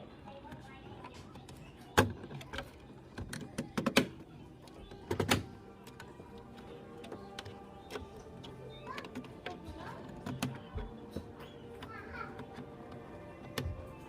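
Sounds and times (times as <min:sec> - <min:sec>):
sharp knocks and clicks: 0:01.4 - 0:14.0.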